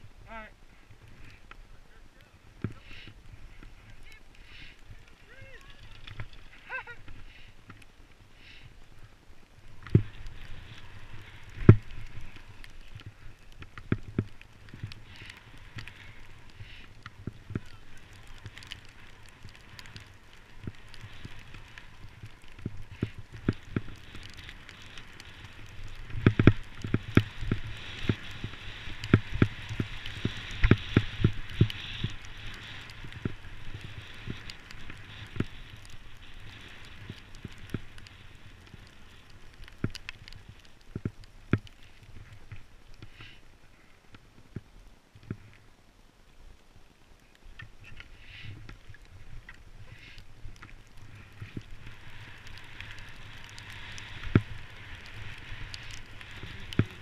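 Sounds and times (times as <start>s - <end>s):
skis hissing through snow: 0.3s - 40.6s, 41.8s - 44.0s, 48.0s - 57.0s.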